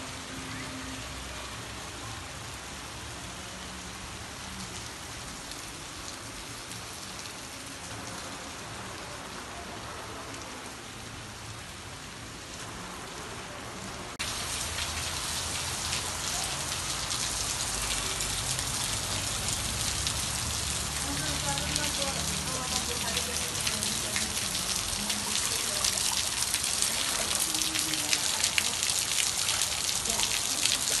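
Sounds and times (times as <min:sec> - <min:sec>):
heavy rain falling: 0:00.0 - 0:31.0
rain splashing on wet balcony floor: 0:00.0 - 0:31.0.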